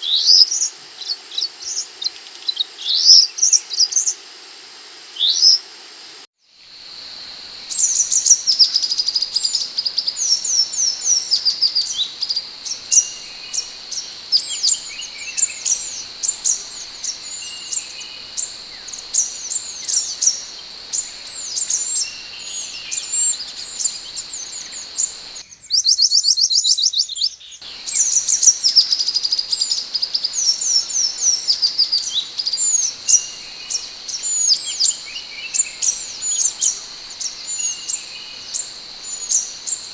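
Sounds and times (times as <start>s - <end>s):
bird singing high chirps: 7.5s - 39.9s.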